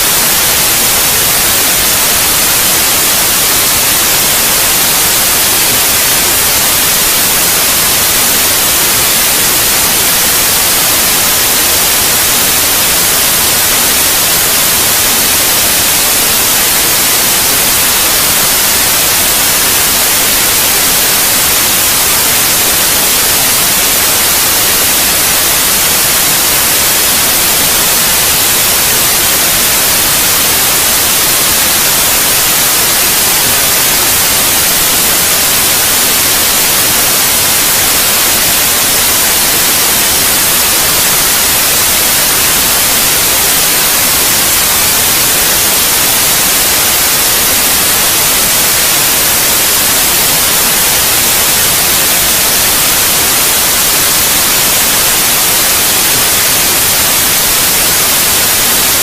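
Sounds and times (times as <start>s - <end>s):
electronic white noise hiss: 0.0s - 59.0s.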